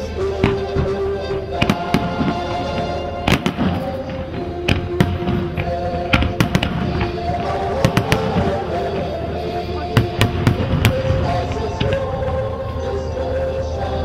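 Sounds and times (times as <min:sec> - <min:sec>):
music with held notes: 0:00.0 - 0:14.0
fireworks bursting bangs: 0:00.3 - 0:12.3.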